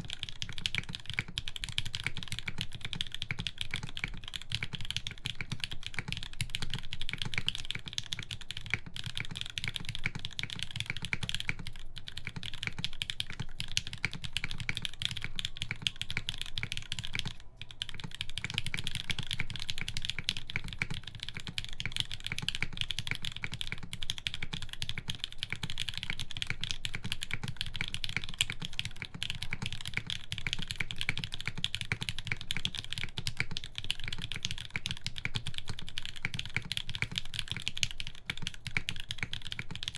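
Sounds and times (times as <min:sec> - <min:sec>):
mechanical keyboard clacks: 0:00.1 - 0:39.9.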